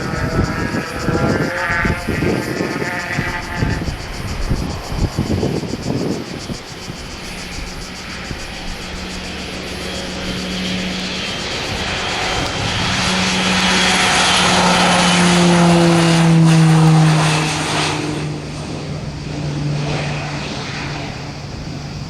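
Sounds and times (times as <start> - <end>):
turboprop aircraft passing: 0.0 - 22.0.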